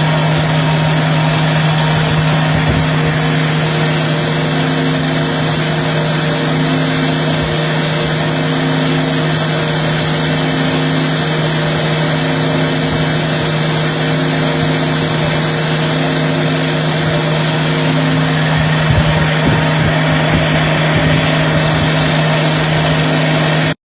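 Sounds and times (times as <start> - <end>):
higher machine tone: 0.0 - 23.8
lathe machine hum: 0.0 - 23.8
even hiss: 1.2 - 23.7.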